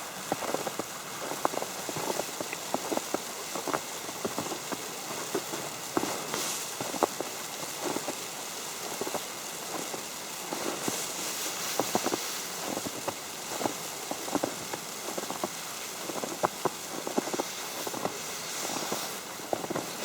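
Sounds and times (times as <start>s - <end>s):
snow pattering on umbrella: 0.0s - 20.0s
steady hiss: 0.0s - 20.0s.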